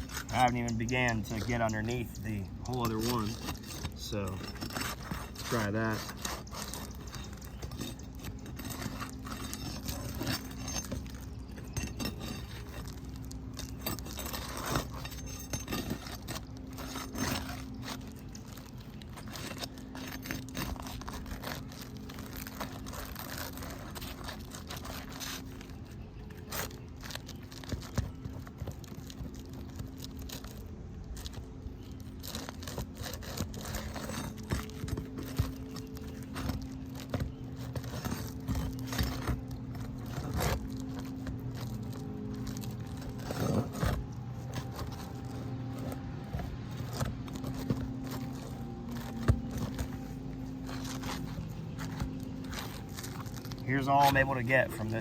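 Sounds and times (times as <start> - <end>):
roof shingle scraping and crinkling: 0.0 - 55.0.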